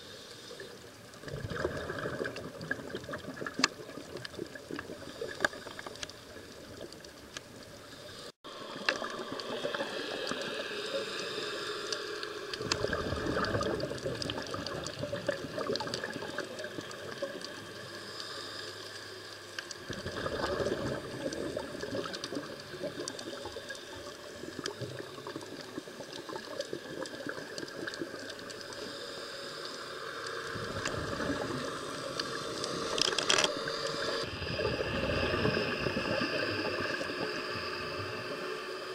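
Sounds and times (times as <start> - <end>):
underwater water noise: 0.0 - 38.9.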